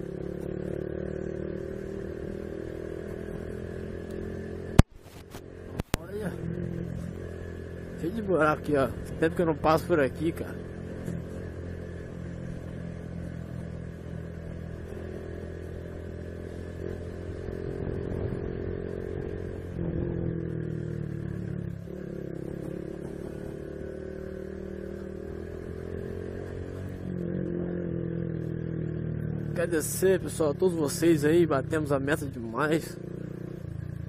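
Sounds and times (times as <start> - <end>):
motorcycle engine running: 0.0 - 34.0
motorcycle rattling: 0.0 - 34.0.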